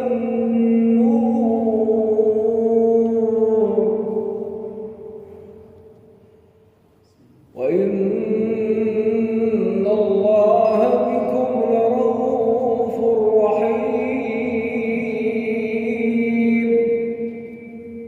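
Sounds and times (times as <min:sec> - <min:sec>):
man chanting recitation: 0:00.0 - 0:05.2, 0:07.1 - 0:18.0.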